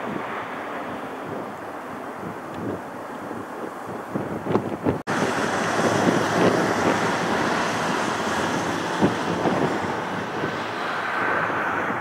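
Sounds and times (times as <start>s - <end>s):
jet engines rushing: 0.0s - 12.0s
wind buffeting microphone: 0.0s - 12.0s.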